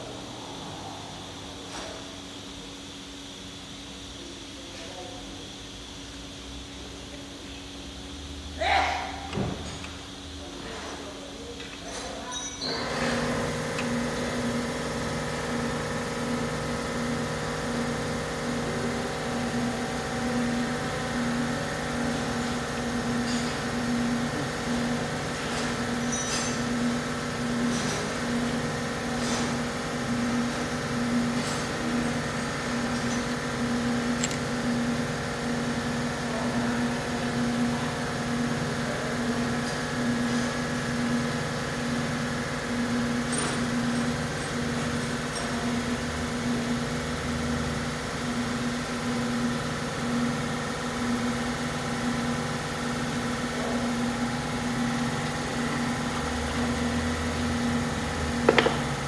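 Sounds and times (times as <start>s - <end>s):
motor running with pulsing hum: 0.0s - 59.0s.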